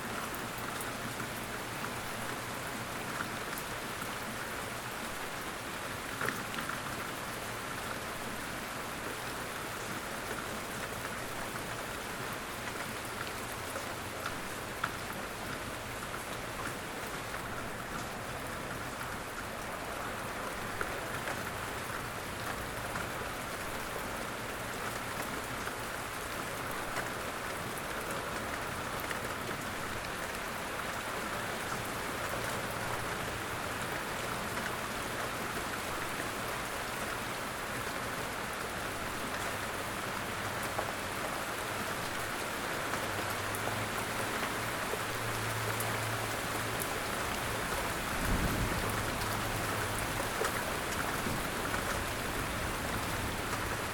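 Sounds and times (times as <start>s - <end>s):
light rain patter: 0.0s - 53.9s.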